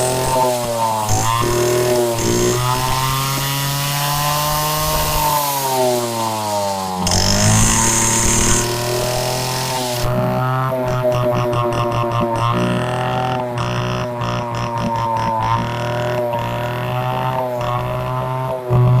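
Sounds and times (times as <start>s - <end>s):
two-stroke motorcycle engine buzzing: 0.0s - 19.0s.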